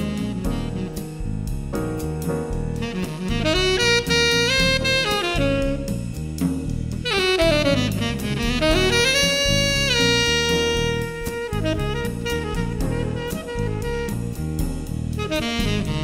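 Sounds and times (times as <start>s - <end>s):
bass line: 0.0s - 16.0s
drums: 0.0s - 16.0s.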